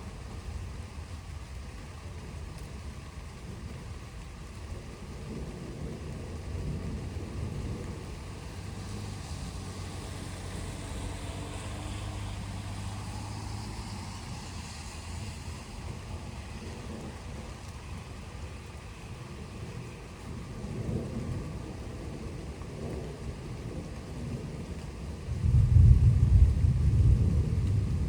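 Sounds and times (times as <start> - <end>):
wind and rain hiss: 0.0 - 28.0
thunder rumble: 2.0 - 28.0.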